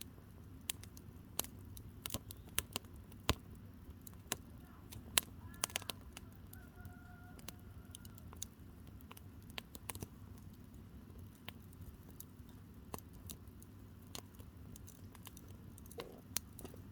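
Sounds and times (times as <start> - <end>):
campfire crackling and popping: 0.0 - 16.9
low rush of fire: 0.0 - 16.9.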